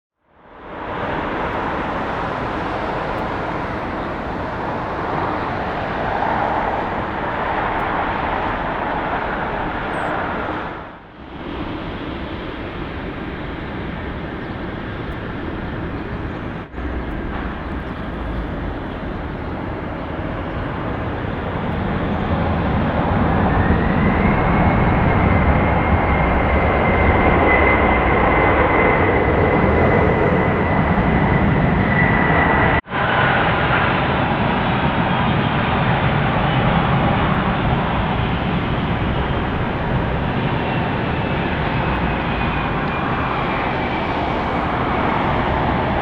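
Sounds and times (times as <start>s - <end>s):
jet engine whine: 0.2s - 46.0s
jet aircraft noise: 0.3s - 46.0s.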